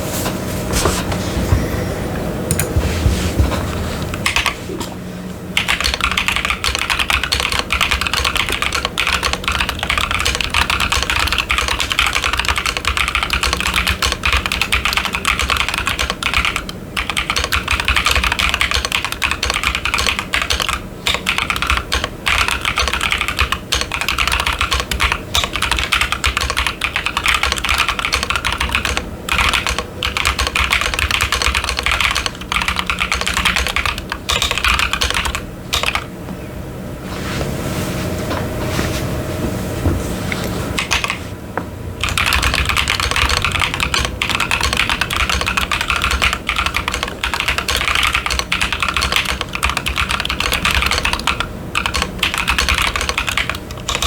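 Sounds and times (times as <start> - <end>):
mechanical keyboard typing: 4.1 - 4.6, 5.6 - 36.1, 40.8 - 41.2, 42.0 - 54.0.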